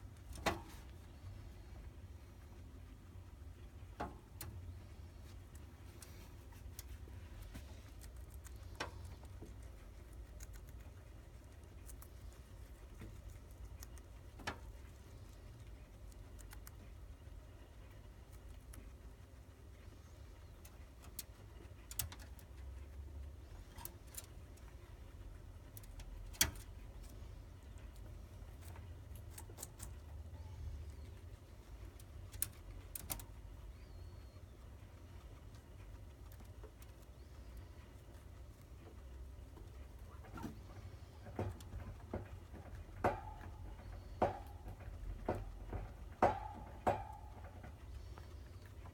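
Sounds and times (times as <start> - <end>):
guinea pig eating clicks and crunches: 0.0 - 48.9.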